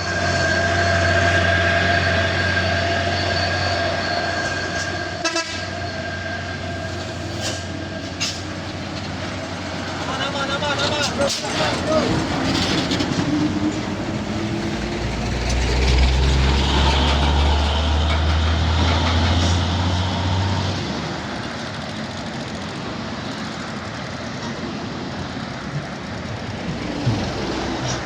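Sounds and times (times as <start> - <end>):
heavy truck engine droning: 0.0 - 28.0
road noise: 0.0 - 28.0.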